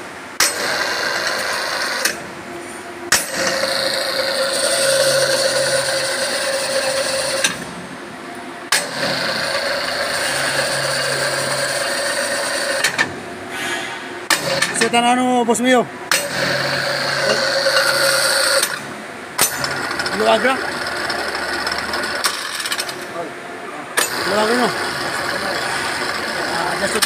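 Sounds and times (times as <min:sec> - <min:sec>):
hoist motor whine: 0:00.0 - 0:27.0.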